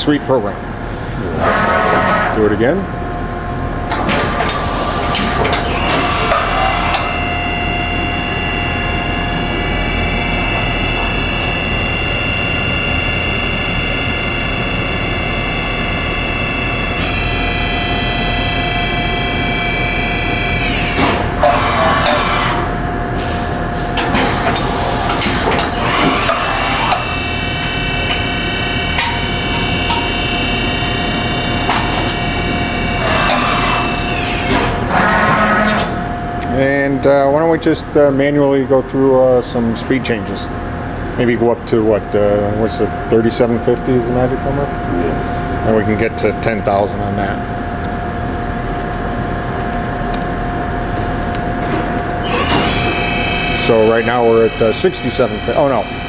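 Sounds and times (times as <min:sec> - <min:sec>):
machine spindle whining: 0:00.0 - 0:38.0, 0:42.0 - 0:56.0.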